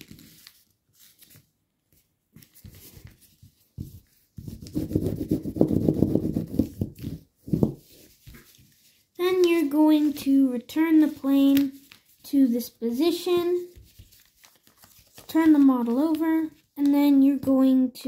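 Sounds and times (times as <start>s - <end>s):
fingers rubbing paper fold: 0.0s - 12.3s, 13.0s - 16.9s
paper rustling: 0.0s - 17.2s.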